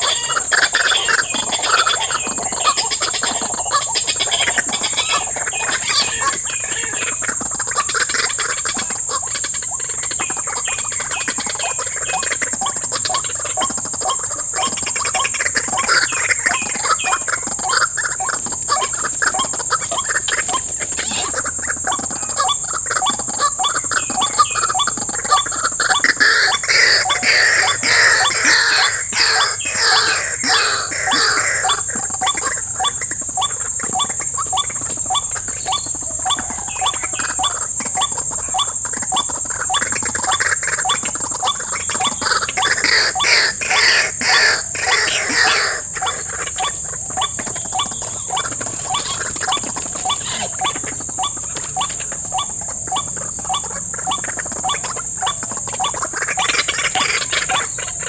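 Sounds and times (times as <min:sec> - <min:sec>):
high insect drone: 0:00.0 - 0:58.0
waterhen calls: 0:00.0 - 0:58.0.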